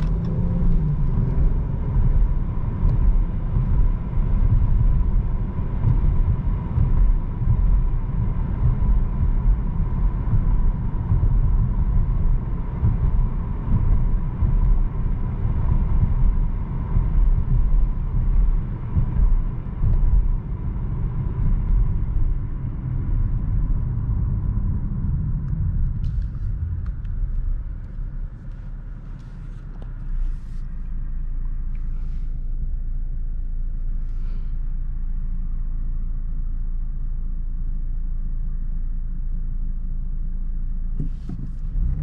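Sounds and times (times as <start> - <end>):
car engine and road rumble: 0.0 - 42.0.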